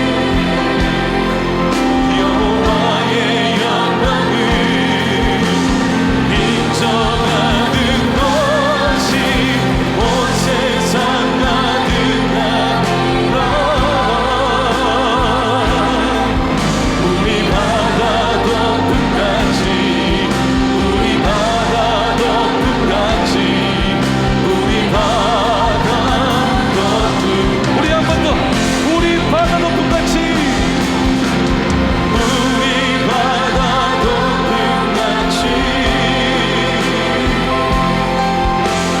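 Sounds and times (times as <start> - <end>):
voices singing with vibrato: 0.0 - 39.0
worship band playing: 0.0 - 39.0.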